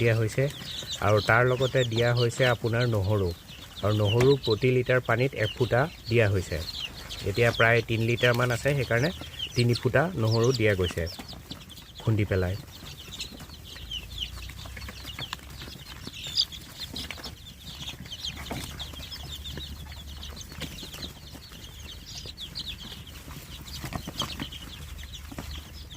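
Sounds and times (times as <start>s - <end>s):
chicks cheeping: 0.0s - 25.9s.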